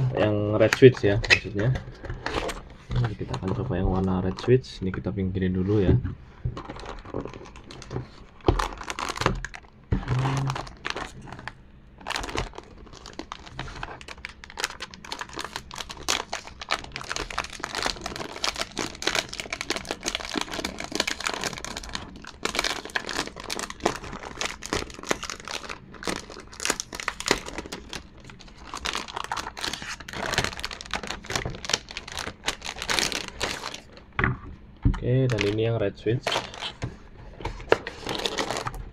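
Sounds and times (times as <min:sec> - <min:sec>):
plastic packaging crinkling: 0:06.4 - 0:34.2, 0:35.2 - 0:38.9.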